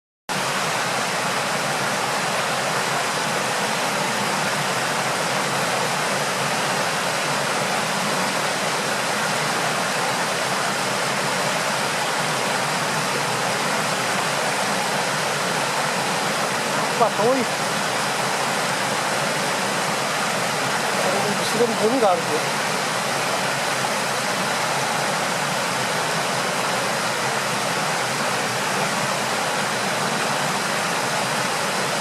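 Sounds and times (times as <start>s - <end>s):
flowing water rushing: 0.3s - 32.0s.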